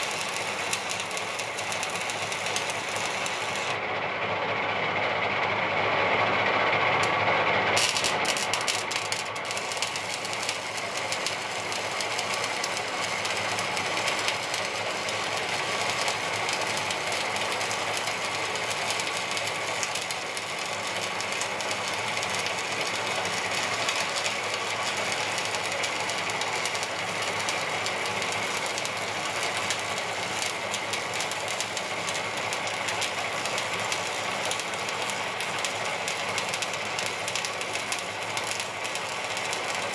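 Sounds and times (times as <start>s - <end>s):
welding arc crackling: 0.0s - 3.8s, 7.8s - 39.9s.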